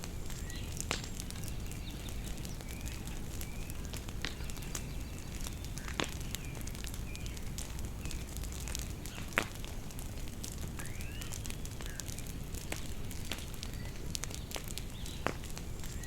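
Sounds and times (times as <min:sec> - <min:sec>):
bonfire crackling and popping: 0:00.0 - 0:16.0
small birds chirping: 0:00.2 - 0:09.6, 0:10.4 - 0:16.0.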